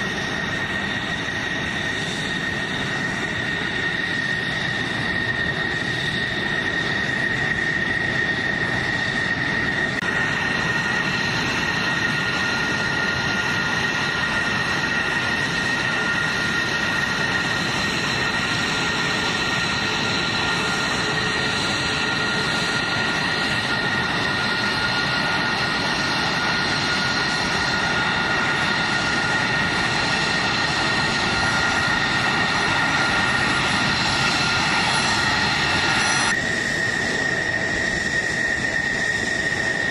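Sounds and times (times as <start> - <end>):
high whine: 0.0 - 39.9
jet engine roaring: 0.0 - 39.9.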